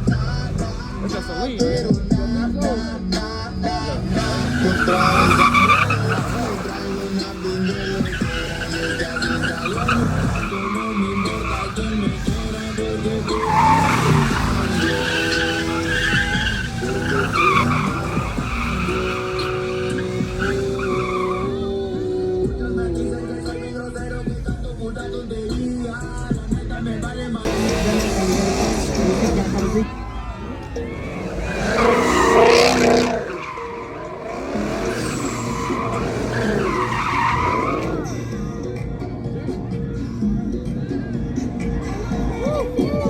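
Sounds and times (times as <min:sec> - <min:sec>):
car engine at high revs: 0:00.0 - 0:23.6, 0:27.4 - 0:40.0
car tyres squealing: 0:00.0 - 0:24.4, 0:25.2 - 0:43.0.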